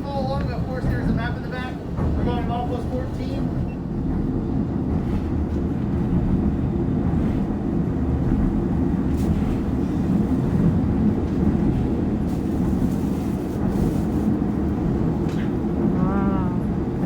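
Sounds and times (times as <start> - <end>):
train rumble inside railroad car: 0.0 - 17.0.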